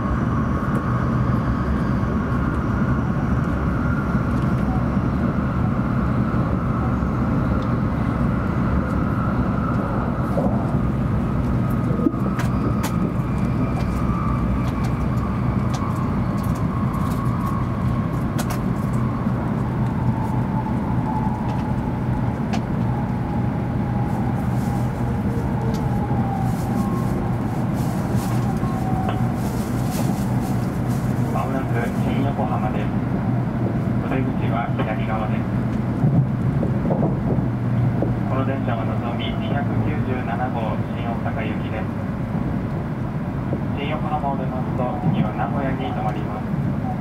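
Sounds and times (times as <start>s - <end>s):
faint train whine: 0.0s - 47.0s
train cabin rumble: 0.0s - 47.0s.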